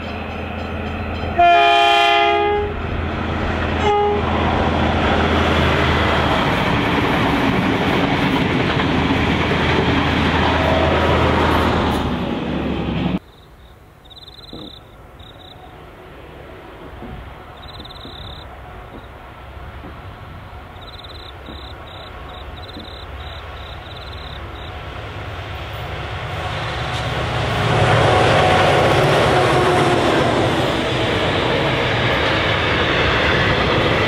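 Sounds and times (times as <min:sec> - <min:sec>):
diesel freight train approaching: 0:00.0 - 0:34.0
train passing: 0:00.0 - 0:34.0.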